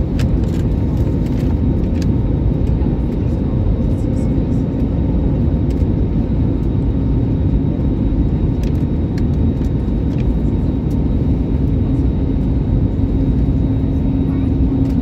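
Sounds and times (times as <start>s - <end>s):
airliner cabin engine roar: 0.0s - 15.0s
constant low hum: 0.0s - 15.0s.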